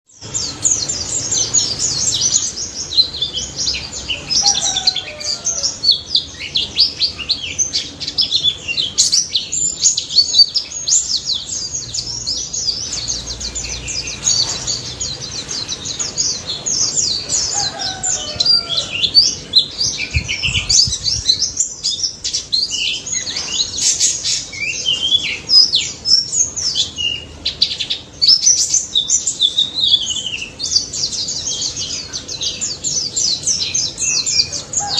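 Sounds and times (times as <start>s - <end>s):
bird twittering chirps: 0.0s - 34.9s.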